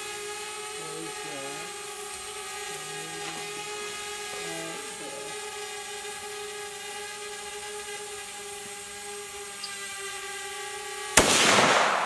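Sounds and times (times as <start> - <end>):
drone propellers whining: 0.0 - 11.2.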